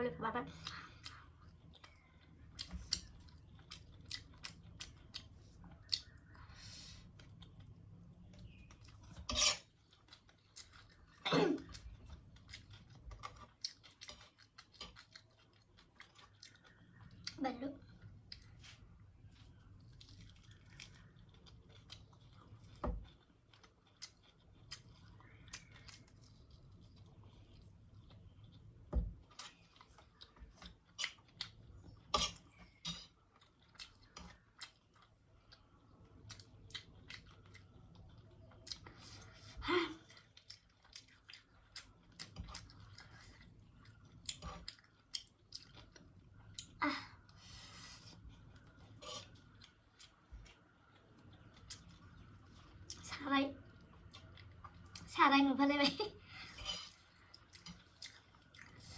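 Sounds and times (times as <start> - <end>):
noodles being chewed: 0.5 - 58.9.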